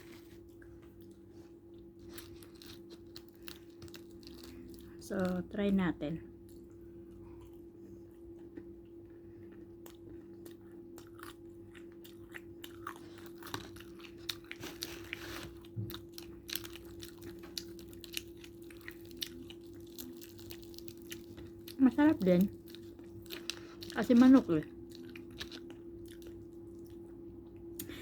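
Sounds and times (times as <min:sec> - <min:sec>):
steady low hum: 0:00.0 - 0:28.0
crunchy chewing and biting: 0:00.3 - 0:05.4, 0:09.8 - 0:27.1.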